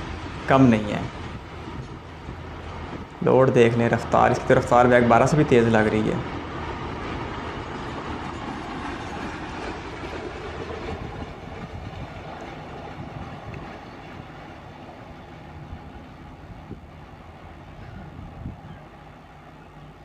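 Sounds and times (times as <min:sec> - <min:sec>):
freight train wheels on rails: 0:00.0 - 0:20.0.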